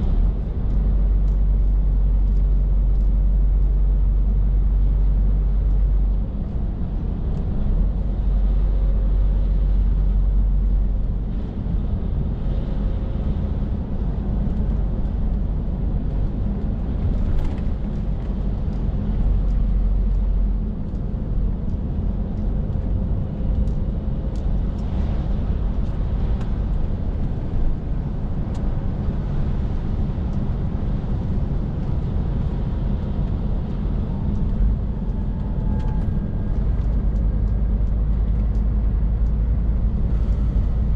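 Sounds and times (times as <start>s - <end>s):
lorry diesel engine droning: 0.0s - 40.9s
road and tyre noise: 0.0s - 40.9s.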